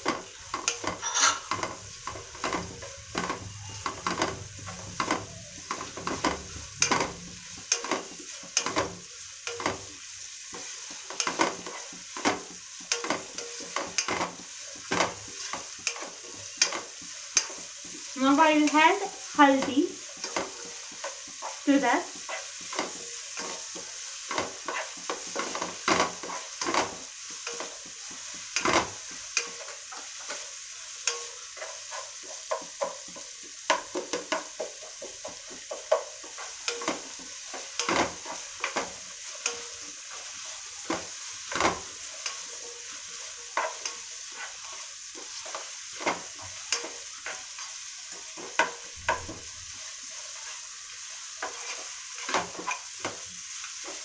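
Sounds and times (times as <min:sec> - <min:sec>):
food sizzling in hot oil: 0:00.0 - 0:54.0
spatula scraping a pan: 0:00.0 - 0:54.0.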